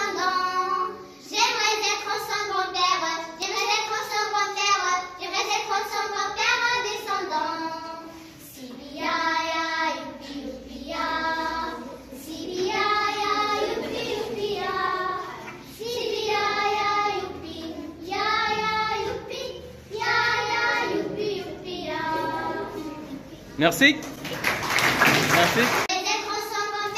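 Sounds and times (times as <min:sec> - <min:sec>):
girls singing unaccompanied: 0:00.0 - 0:23.6, 0:25.9 - 0:26.9.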